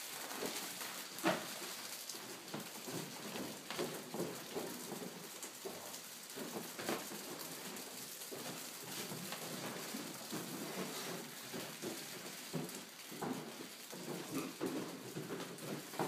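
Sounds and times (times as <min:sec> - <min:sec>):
plastic sheeting crinkling: 0:00.0 - 0:16.0.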